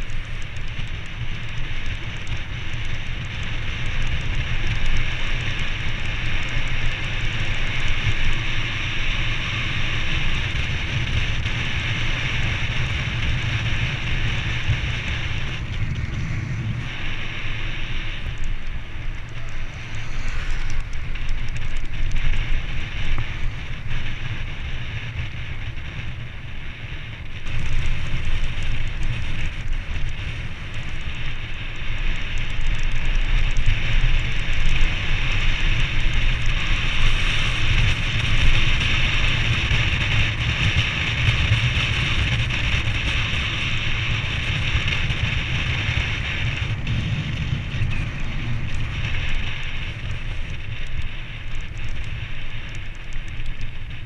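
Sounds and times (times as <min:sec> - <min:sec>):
bike tyres rolling on concrete: 0:00.0 - 0:54.0
wind rumbling on microphone: 0:00.0 - 0:54.0.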